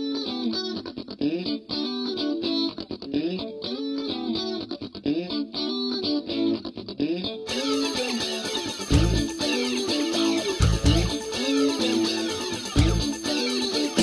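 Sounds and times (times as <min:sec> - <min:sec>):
electric guitar melodic runs: 0:00.0 - 0:14.0.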